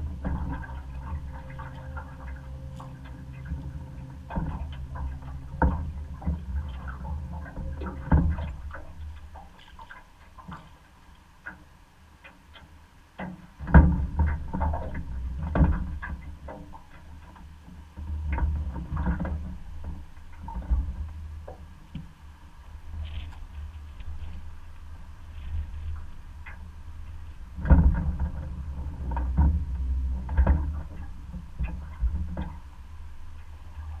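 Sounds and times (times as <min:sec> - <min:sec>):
knocks and clatters on a hull: 0:00.0 - 0:22.2, 0:22.9 - 0:34.0
steady low rumble: 0:00.0 - 0:34.0
water sloshing against a boat: 0:00.0 - 0:34.0.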